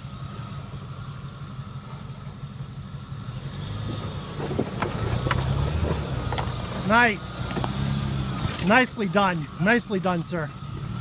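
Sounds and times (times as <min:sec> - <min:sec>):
truck engine pulling under load: 0:00.0 - 0:11.0.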